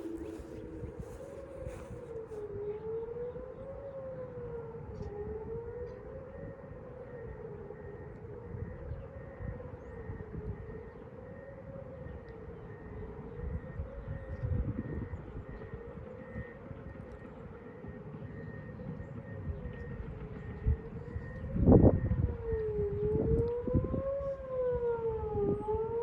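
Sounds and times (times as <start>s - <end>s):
tornado warning sirens: 0.0s - 26.0s.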